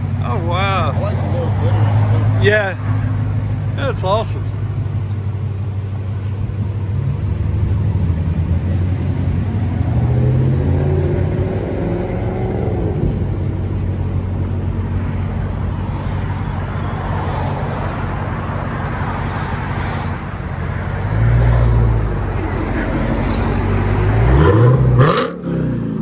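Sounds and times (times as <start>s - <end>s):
car engine running: 0.0s - 25.2s.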